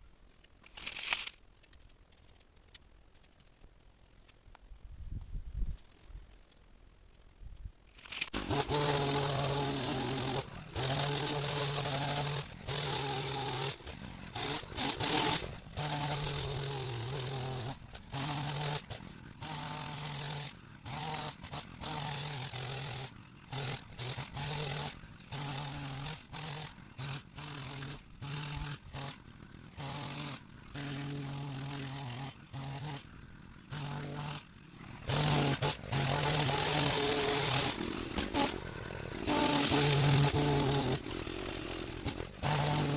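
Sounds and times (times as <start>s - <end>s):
hedge trimmer cutting: 8.0s - 42.9s.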